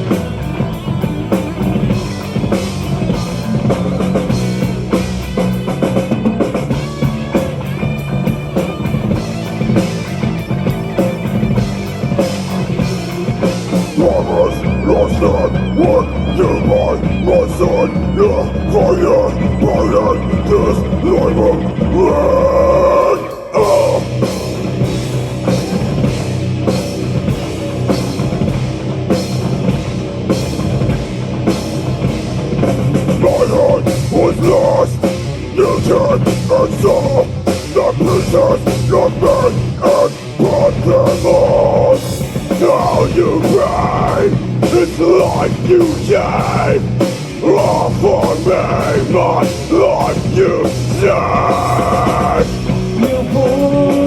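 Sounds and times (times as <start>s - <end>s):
heavy metal band playing: 0.0s - 54.0s
melodic lead guitar line: 0.0s - 54.0s.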